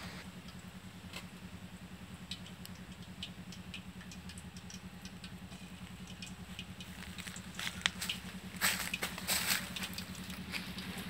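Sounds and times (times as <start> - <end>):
light ticks: 0.4 - 1.3, 2.2 - 10.9.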